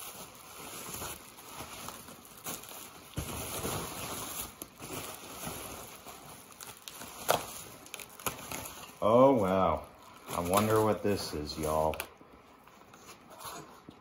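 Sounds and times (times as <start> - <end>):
packing material rustling: 0.0 - 14.0.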